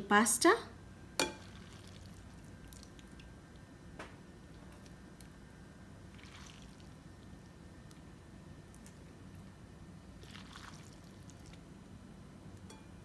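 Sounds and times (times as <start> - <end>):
soft squishing of noodles: 1.3 - 3.8, 4.4 - 12.8.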